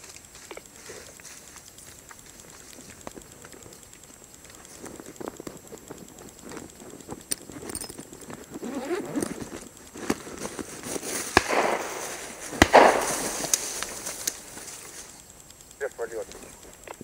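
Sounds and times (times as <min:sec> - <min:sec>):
sharp clicks: 0:00.0 - 0:17.0.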